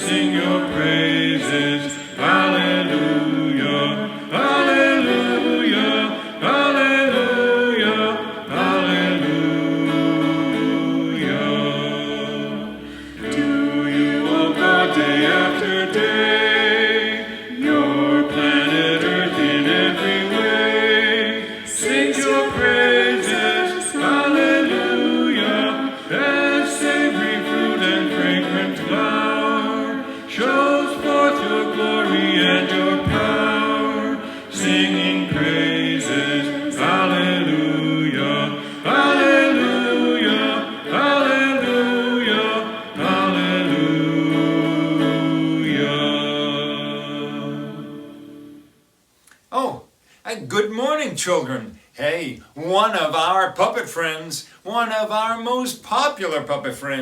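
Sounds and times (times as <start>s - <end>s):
voices singing in harmony: 0.0s - 49.9s.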